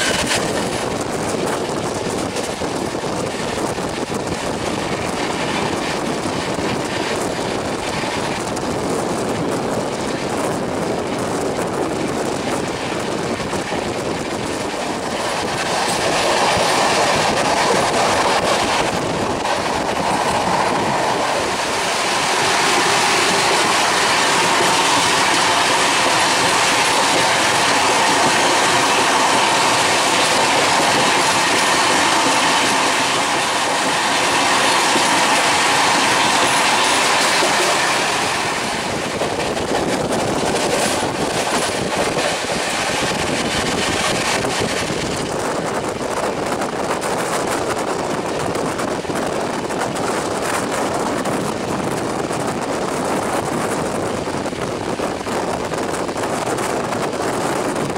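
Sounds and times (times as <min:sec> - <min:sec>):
rush of wind and wheels: 0:00.0 - 0:57.9.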